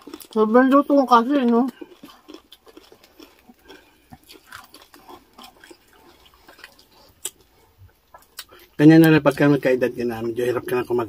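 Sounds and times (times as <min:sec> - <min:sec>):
chewing crispy fried pork: 0:00.0 - 0:11.0.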